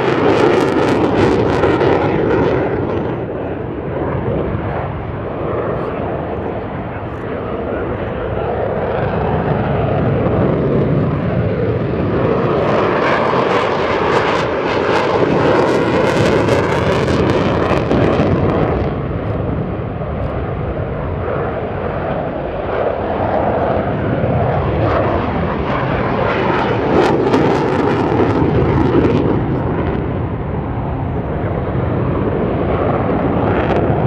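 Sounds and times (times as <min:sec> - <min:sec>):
jet engines roaring overhead: 0:00.0 - 0:34.0.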